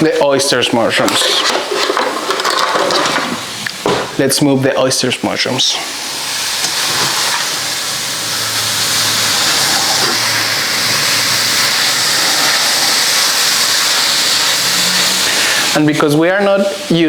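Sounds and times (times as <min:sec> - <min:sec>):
mushrooms sizzling in a pan: 0:00.0 - 0:17.0.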